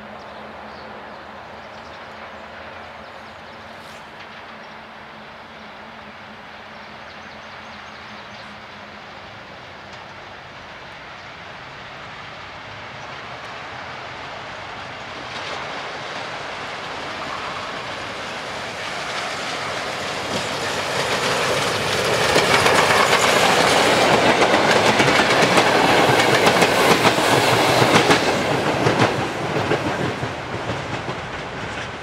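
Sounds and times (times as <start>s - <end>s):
steam train passing: 0.0s - 32.0s.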